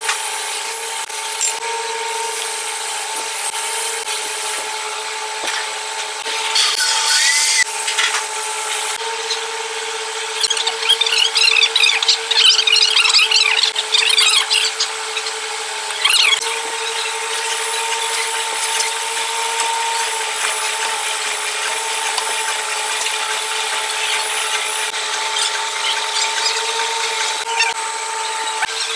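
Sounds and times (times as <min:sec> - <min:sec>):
cutter squealing on metal: 0:00.0 - 0:05.2, 0:05.8 - 0:28.9
machine tool whining: 0:00.0 - 0:28.9.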